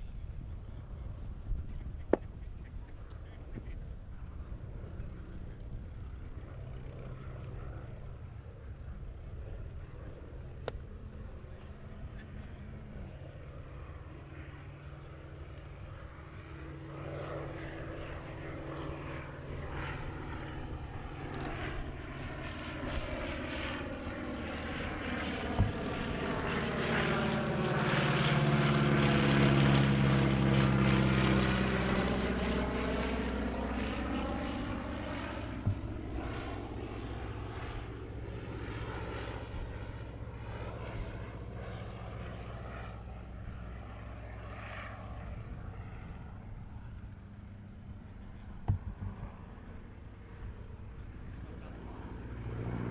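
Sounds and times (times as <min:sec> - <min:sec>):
propeller plane engine drone: 0:00.0 - 0:52.9.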